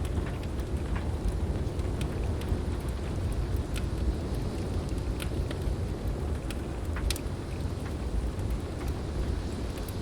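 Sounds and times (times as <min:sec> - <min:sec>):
heavy rain: 0:00.0 - 0:10.0
steady low rumble: 0:00.0 - 0:10.0
wood fire crackling: 0:00.0 - 0:10.0.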